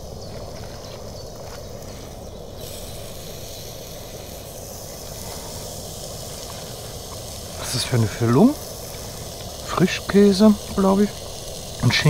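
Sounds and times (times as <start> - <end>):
food sizzling on grill: 0.0 - 12.0
gas grill burner rushing: 1.3 - 12.0.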